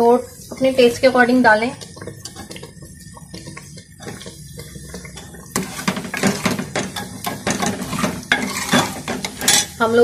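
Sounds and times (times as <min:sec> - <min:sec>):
oil sizzling in a frying pan: 0:00.0 - 0:10.0
ladle scraping a pan: 0:01.8 - 0:09.9.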